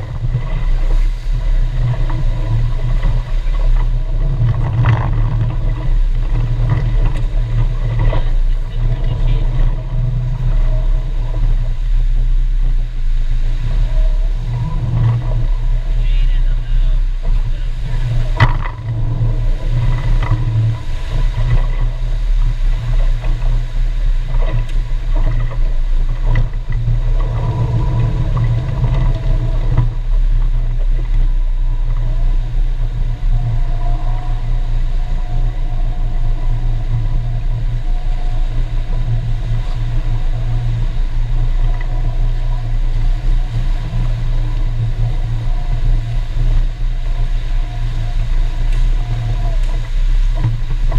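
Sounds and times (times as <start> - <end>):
motorboat engine droning: 0.0 - 50.9.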